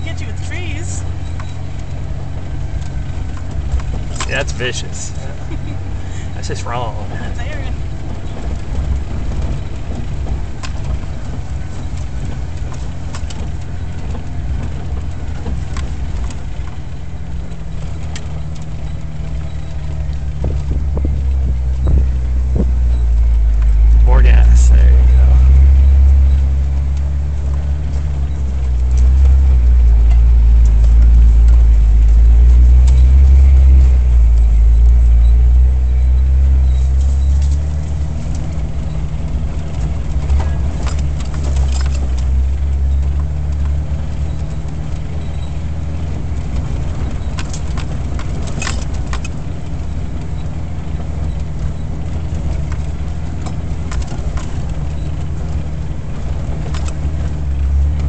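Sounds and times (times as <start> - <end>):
engine and road rumble: 0.0 - 58.0
rattles and clicks in vehicle: 0.0 - 58.0.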